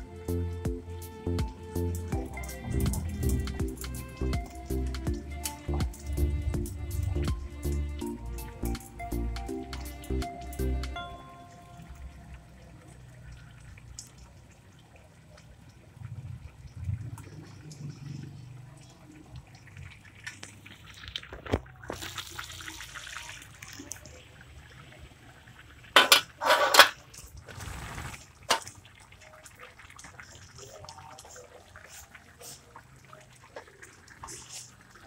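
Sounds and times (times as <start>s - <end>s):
stew bubbling in a wok: 1.5s - 8.5s, 11.0s - 35.0s.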